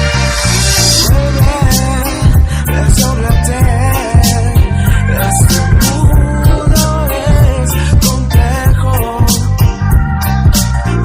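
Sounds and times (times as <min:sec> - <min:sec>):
bass line: 0:00.0 - 0:11.0
reggae music with drum beat: 0:00.0 - 0:11.0
wavering lead melody: 0:00.0 - 0:11.0.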